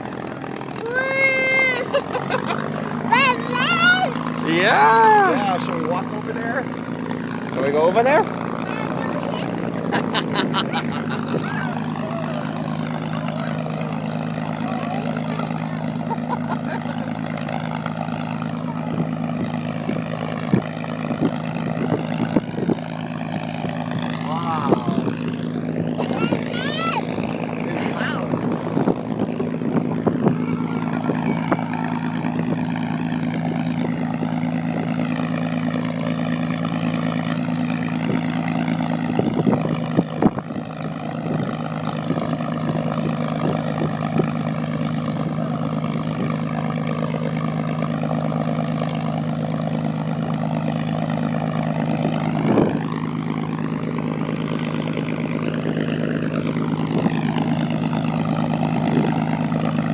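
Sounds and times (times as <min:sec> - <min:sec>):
propeller airplane engine droning: 0:00.0 - 0:59.9.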